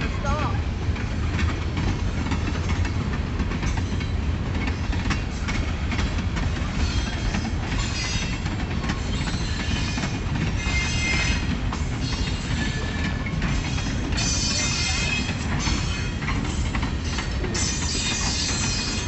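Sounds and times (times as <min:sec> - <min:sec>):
train wheels rumbling: 0:00.0 - 0:19.0
wheels clicking over rail joints: 0:00.0 - 0:19.0.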